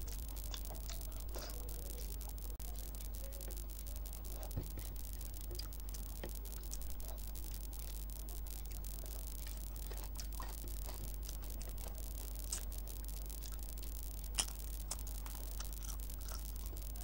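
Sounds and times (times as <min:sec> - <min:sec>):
soft mouth sounds: 0:00.0 - 0:17.0
steady low hum: 0:00.0 - 0:17.0.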